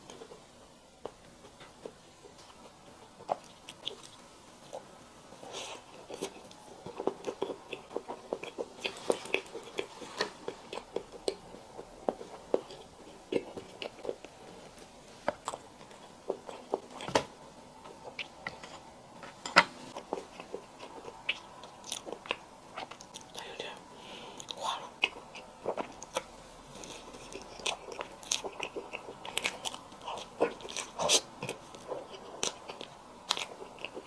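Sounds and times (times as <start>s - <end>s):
close-miked chewing and mouth clicks: 1.0s - 17.2s, 17.8s - 18.8s, 19.9s - 23.8s, 24.4s - 34.0s.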